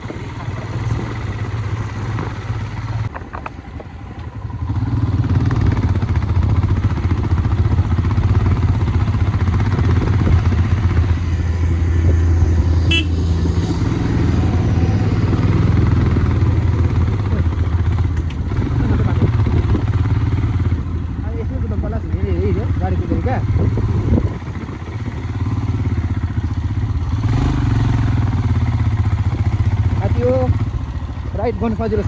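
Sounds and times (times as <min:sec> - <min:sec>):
motorcycle engine running under load: 0:00.0 - 0:32.0.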